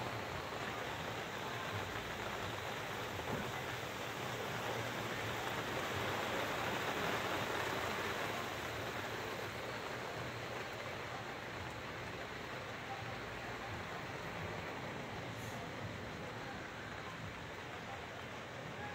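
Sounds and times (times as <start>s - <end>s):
rain falling steadily: 0.0s - 18.9s.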